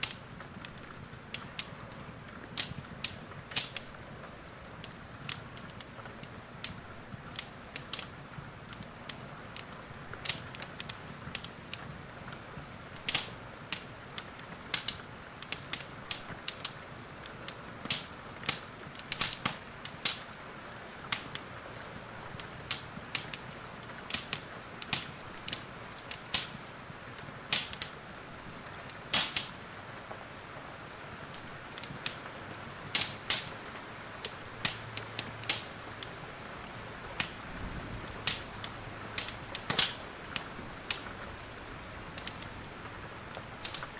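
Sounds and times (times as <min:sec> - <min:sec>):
rain hiss: 0:00.0 - 0:43.9
wood fire crackling: 0:00.0 - 0:43.9.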